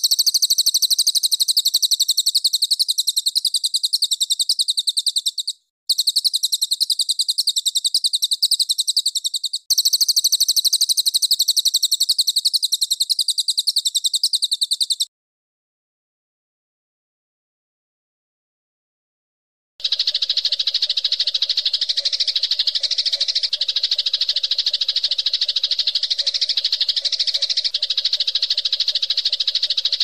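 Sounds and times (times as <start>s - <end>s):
songbird rapid trill: 0.0s - 15.1s, 19.8s - 30.0s.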